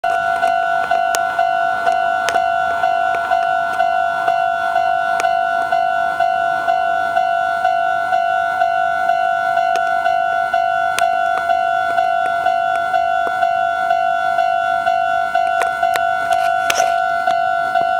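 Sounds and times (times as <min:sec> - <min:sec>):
level-crossing alarm two-tone ding: 0:00.0 - 0:17.9.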